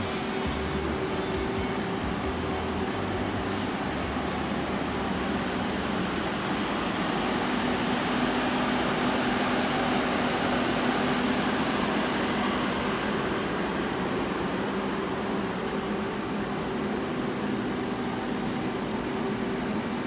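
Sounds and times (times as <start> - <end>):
machinery humming and fan whirring: 0.0 - 20.0.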